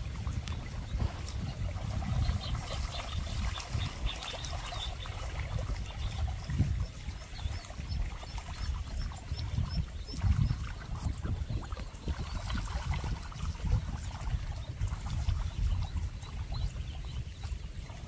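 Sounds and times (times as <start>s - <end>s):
ducklings peeping: 0.2s - 12.6s, 14.1s - 18.0s.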